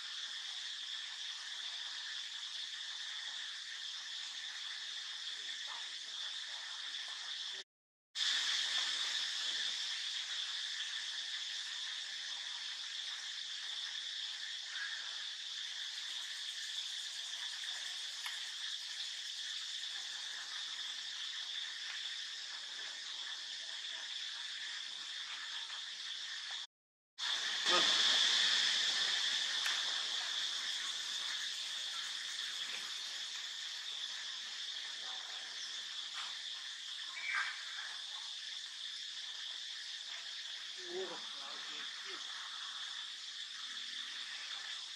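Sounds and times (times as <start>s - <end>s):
insects trilling: 0.0s - 7.6s, 8.2s - 44.9s.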